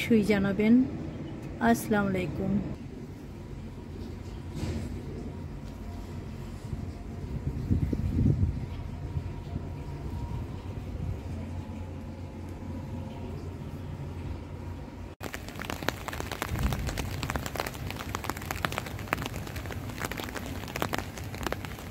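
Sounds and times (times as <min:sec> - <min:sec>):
low rumble with hum: 0:00.0 - 0:21.9
rain on a hard surface: 0:02.7 - 0:13.6, 0:15.2 - 0:21.9.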